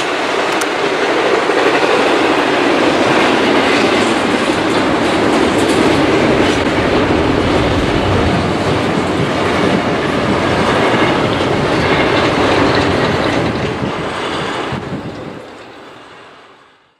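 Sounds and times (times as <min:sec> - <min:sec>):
train wheels rumbling over bridge: 0:00.0 - 0:16.9.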